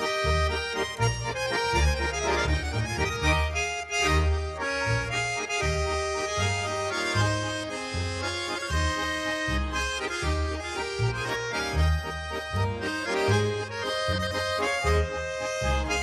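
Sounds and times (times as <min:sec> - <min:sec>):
button accordions playing melody: 0:00.0 - 0:16.0
double bass notes: 0:00.0 - 0:16.0.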